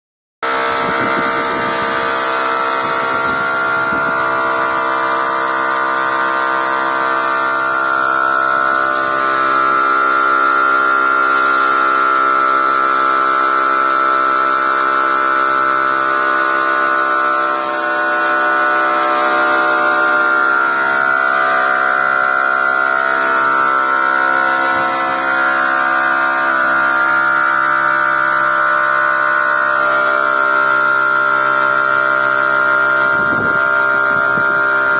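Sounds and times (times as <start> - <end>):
polishing machine droning hum: 0.4 - 34.9.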